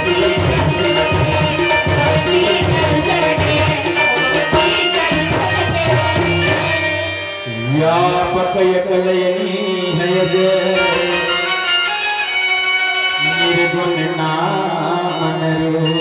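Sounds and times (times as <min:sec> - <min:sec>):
person singing: 0:00.0 - 0:06.8, 0:07.4 - 0:11.9, 0:13.2 - 0:16.0
melodic accompaniment: 0:00.0 - 0:16.0
tabla: 0:00.0 - 0:16.0.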